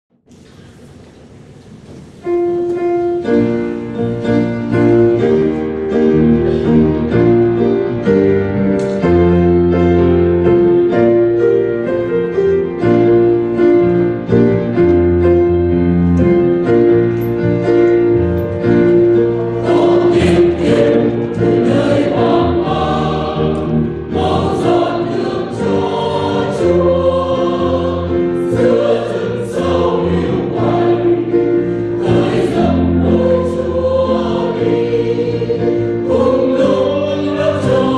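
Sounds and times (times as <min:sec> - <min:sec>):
keyboard accompaniment: 0:02.2 - 0:37.9
choir singing a hymn: 0:02.3 - 0:37.9.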